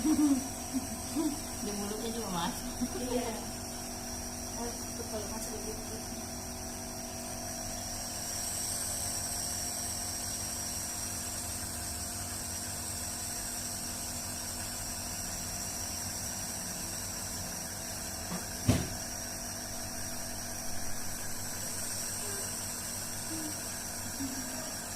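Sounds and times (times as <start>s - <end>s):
steady hum: 0.0s - 24.9s.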